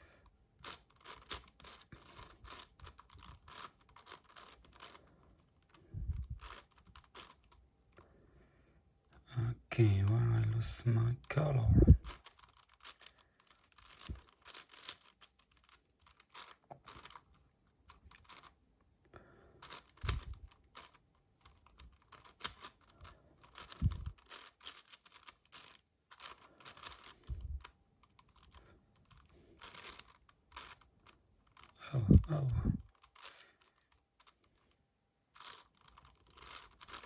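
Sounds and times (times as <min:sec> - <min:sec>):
plastic puzzle cube clicking: 0:00.2 - 0:08.0, 0:12.0 - 0:18.6, 0:19.6 - 0:34.7, 0:35.3 - 0:37.0.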